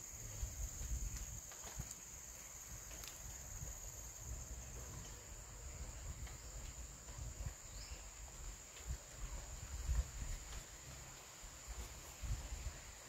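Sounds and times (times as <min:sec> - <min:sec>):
insects droning: 0:00.0 - 0:13.0
low uneven rumble: 0:00.1 - 0:13.0.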